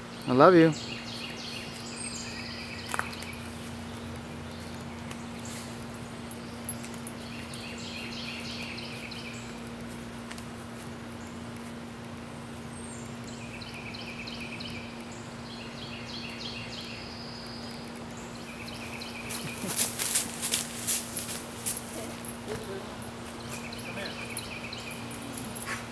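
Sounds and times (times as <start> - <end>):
bird chirping: 0.0 - 9.7, 12.5 - 20.4, 22.0 - 25.9.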